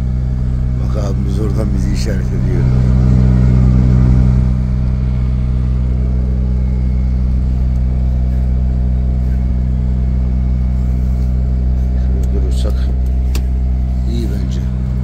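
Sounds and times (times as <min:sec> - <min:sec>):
truck diesel engine at low revs: 0:00.0 - 0:15.0.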